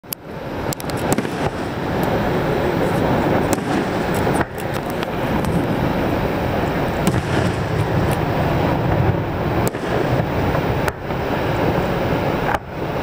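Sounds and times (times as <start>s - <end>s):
loud steady rushing noise: 0.0s - 13.0s
fireworks popping and crackling: 0.6s - 13.0s.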